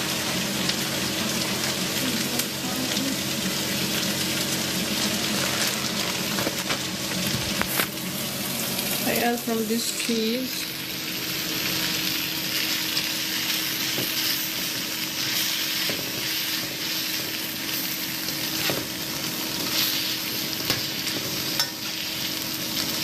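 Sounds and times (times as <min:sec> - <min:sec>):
food sizzling in a frying pan: 0:00.0 - 0:23.0.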